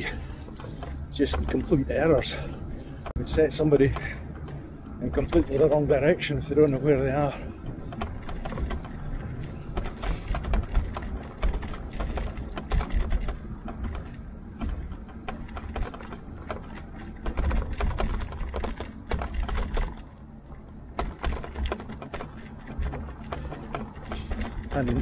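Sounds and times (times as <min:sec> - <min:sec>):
bike clicking and rattling: 0:00.0 - 0:25.0.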